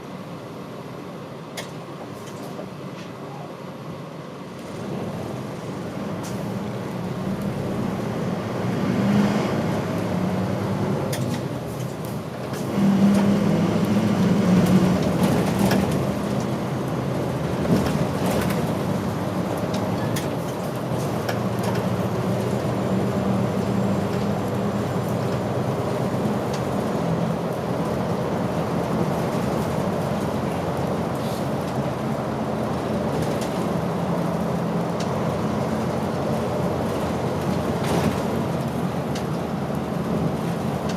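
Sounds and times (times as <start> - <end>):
bus engine drone: 0.0 - 40.9
road noise: 0.0 - 40.9.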